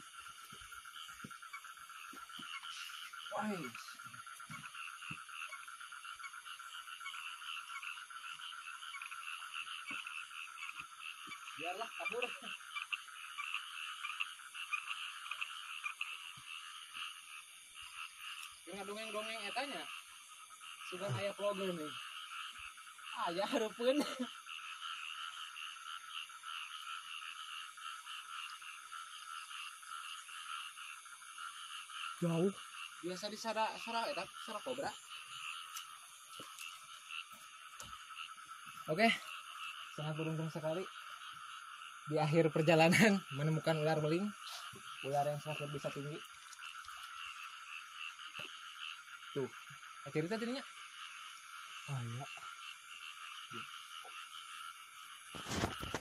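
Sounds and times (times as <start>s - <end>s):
frogs calling: 0.0s - 56.0s.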